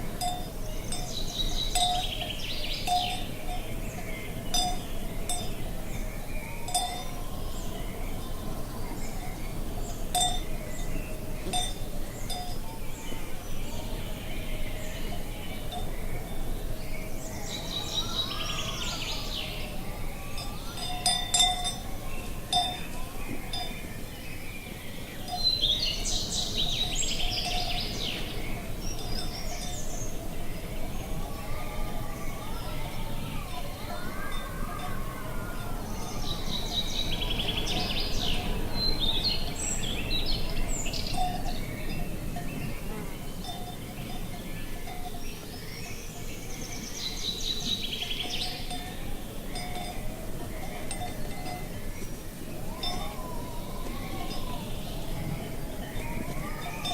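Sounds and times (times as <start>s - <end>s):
low wind rumble: 0.0s - 56.9s
small birds chirping and trilling: 0.0s - 56.9s
songbird singing: 0.0s - 56.9s.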